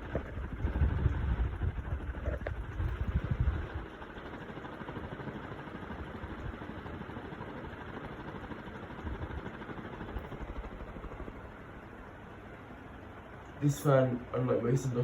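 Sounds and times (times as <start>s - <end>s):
ceiling fan running: 0.0s - 15.0s.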